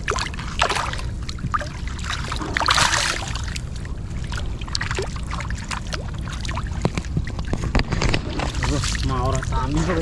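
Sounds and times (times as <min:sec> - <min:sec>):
muddy water splashing: 0:00.0 - 0:10.0.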